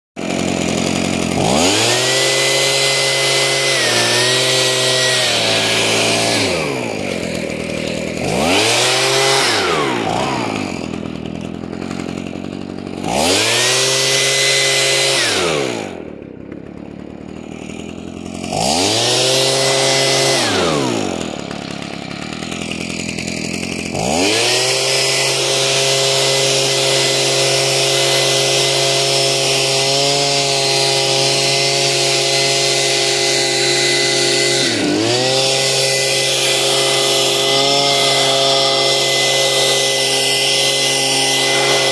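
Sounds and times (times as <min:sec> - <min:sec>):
gas-engine blower revving: 0:00.2 - 0:41.9.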